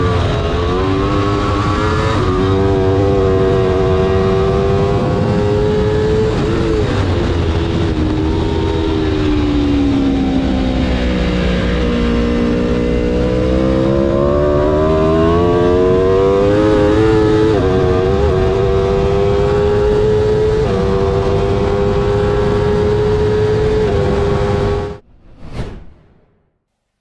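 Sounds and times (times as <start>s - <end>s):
motorcycle engine at full throttle: 0.0s - 25.0s.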